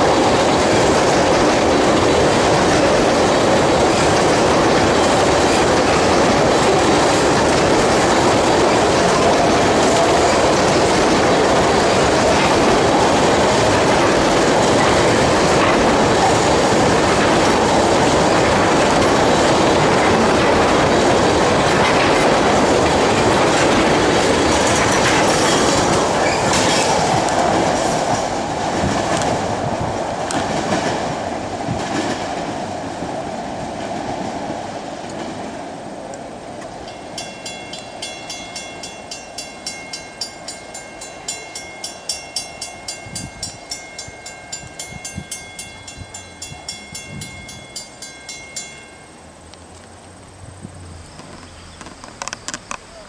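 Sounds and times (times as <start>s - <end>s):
freight train rumbling past: 0.0s - 53.0s
wheels clacking over rail joints: 0.0s - 53.0s.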